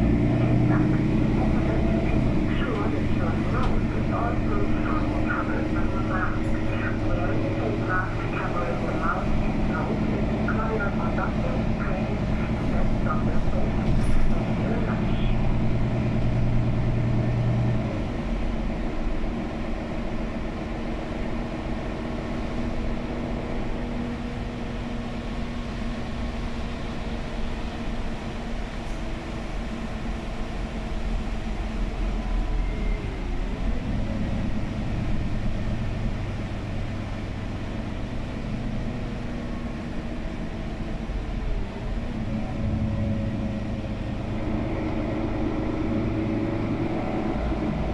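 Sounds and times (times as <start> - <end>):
bus engine drone: 0.0 - 47.9
road noise: 0.0 - 47.9.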